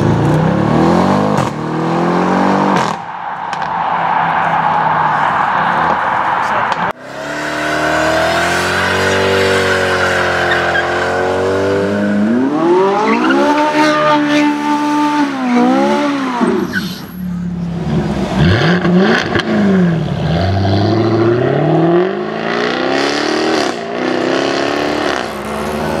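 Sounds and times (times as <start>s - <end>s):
performance car engines revving: 0.0s - 26.0s.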